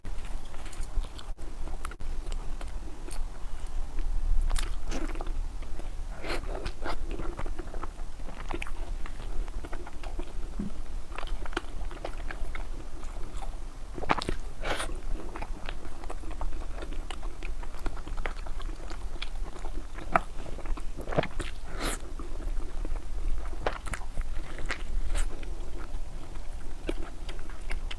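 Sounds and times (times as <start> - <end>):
steady low hum: 0.0 - 27.9
person biting and chewing food: 0.1 - 27.9.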